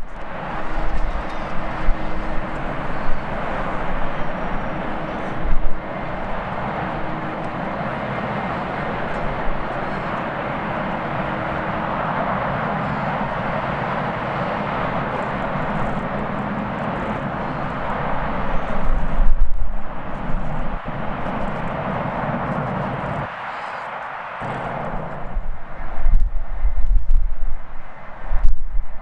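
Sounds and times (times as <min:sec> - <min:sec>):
jet engines rushing: 0:00.0 - 0:28.3
faint steady hum: 0:00.0 - 0:29.0.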